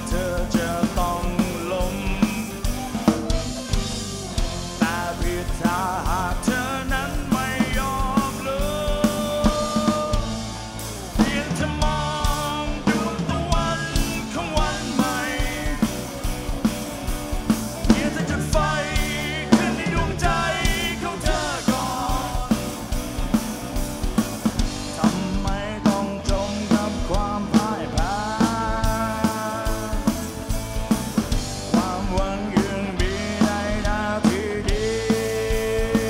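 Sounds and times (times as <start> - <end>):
man singing: 0.0 - 16.8, 17.7 - 23.1, 24.8 - 36.0
drum kit: 0.0 - 36.0
electric guitar: 0.0 - 36.0.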